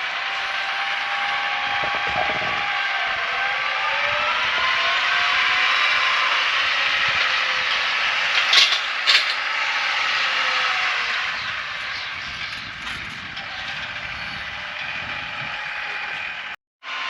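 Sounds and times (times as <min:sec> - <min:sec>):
farm machinery running: 0:00.0 - 0:17.0.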